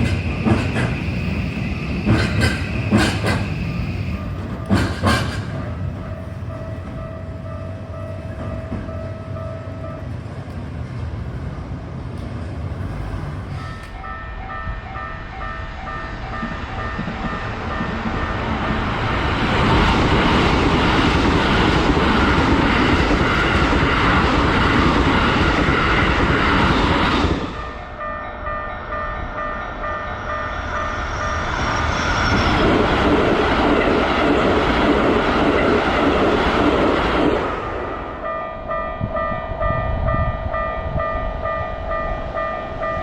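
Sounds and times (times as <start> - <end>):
electric train rushing past: 0.0 - 43.0
wheel and rail noise: 0.0 - 43.0.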